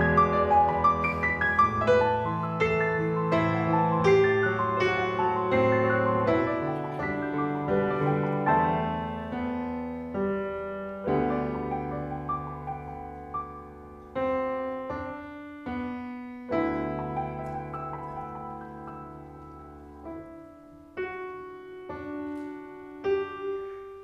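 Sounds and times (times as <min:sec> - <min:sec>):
grand piano chords: 0:00.0 - 0:24.0.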